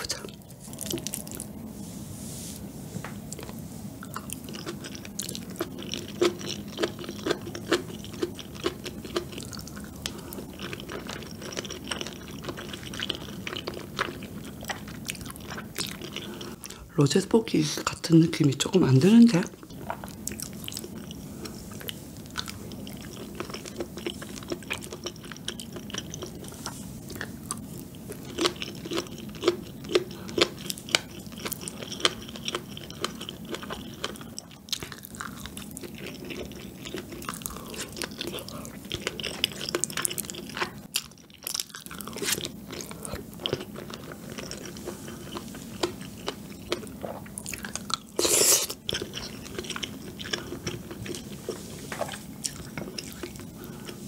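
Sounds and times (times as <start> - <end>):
wet sticky chewing: 0.0 - 1.5, 3.3 - 16.8, 19.2 - 54.0.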